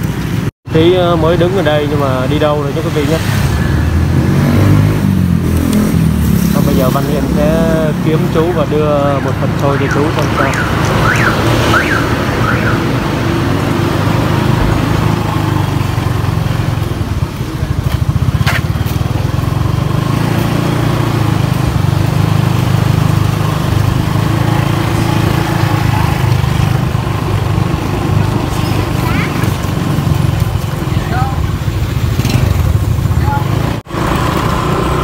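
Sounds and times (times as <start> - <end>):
motorbike and car engines passing: 0.0 - 35.0.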